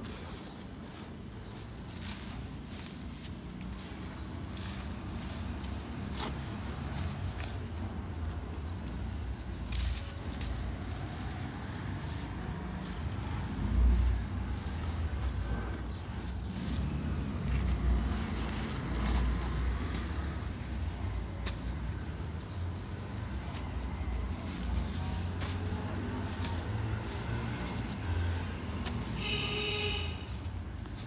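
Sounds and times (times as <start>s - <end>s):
hand squeezing gritty dirt: 0.0s - 29.5s.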